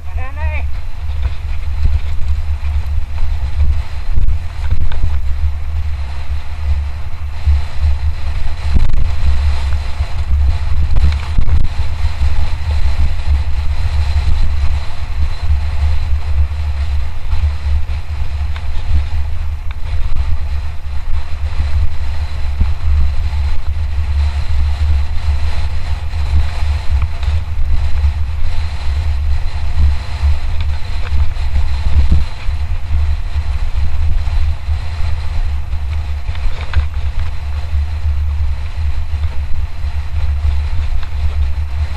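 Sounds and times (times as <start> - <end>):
bike rattling: 0.0 - 41.9
tyres hissing on trail: 0.0 - 41.9
wind buffeting microphone: 0.0 - 41.9.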